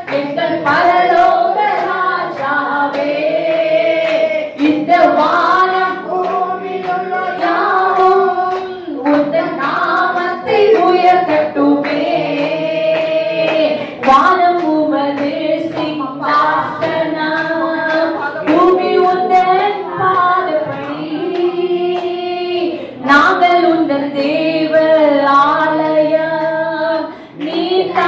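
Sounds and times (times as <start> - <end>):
hands clapping in time: 0.0 - 22.7, 24.2 - 28.0
voices singing along: 0.0 - 28.0
woman singing into microphone: 0.0 - 28.0.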